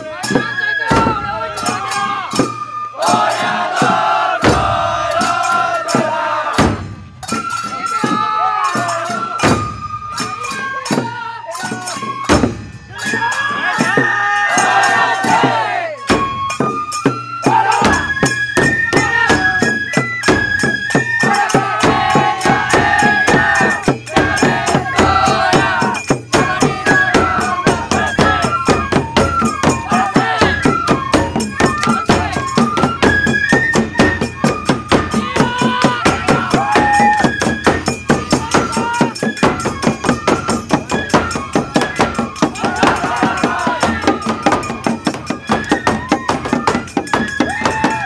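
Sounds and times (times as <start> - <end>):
bamboo flute melody: 0.0 - 48.0
taiko drums beating: 0.0 - 48.0.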